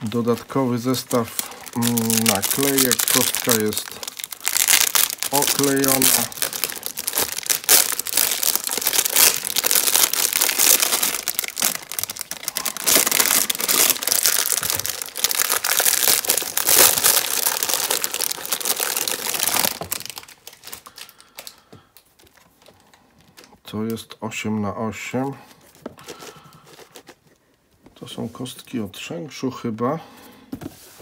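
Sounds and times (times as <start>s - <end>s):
plastic wrapping crinkling: 0.0s - 23.5s, 25.5s - 27.5s.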